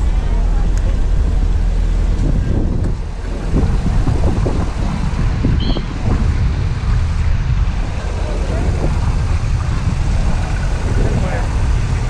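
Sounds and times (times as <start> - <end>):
piston engine idling: 0.0 - 12.0
wind buffeting microphone: 0.0 - 12.0.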